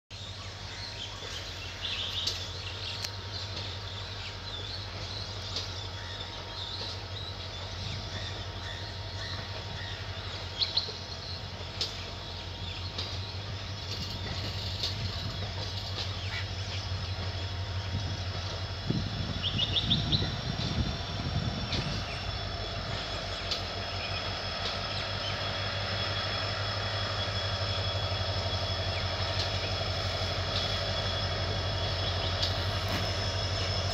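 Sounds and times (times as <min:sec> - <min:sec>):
locomotive diesel engine running: 0:00.1 - 0:33.9
high whine: 0:00.2 - 0:33.9.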